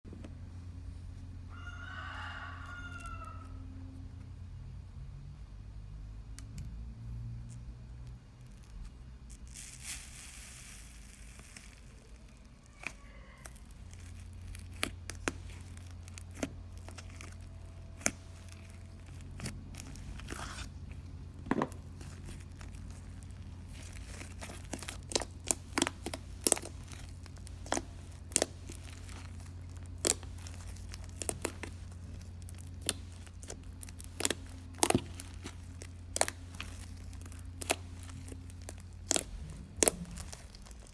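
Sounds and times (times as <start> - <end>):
slime crust crackling and popping: 7.9 - 40.9.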